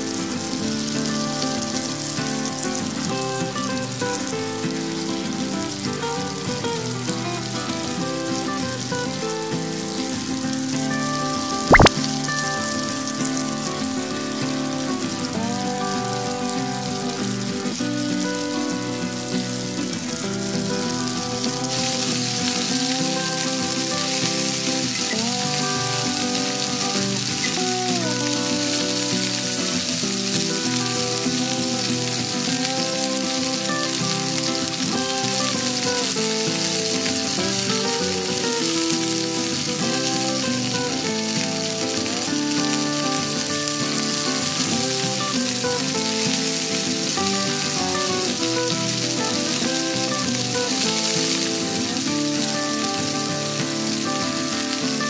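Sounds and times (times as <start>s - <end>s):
garlic sizzling in hot oil: 0.0s - 55.0s.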